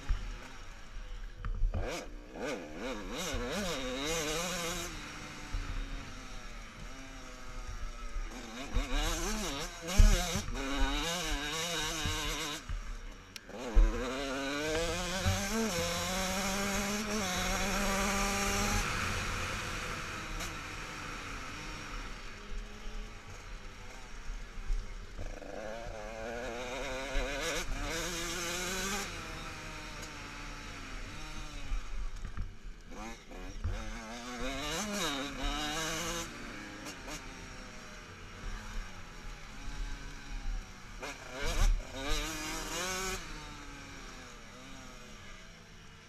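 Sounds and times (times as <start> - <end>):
motocross bike engines revving: 0.0 - 46.0.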